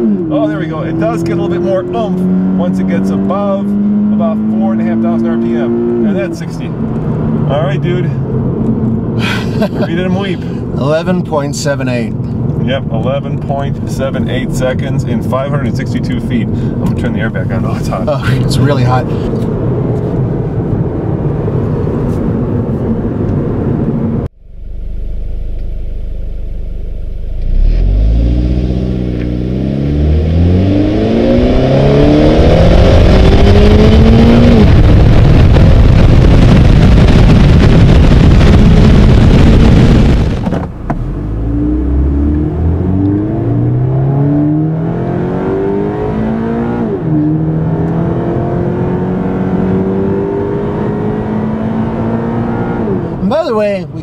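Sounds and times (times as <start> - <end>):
car engine accelerating: 0.0 - 53.3
wind and tyre rush: 5.8 - 24.3, 27.4 - 54.0.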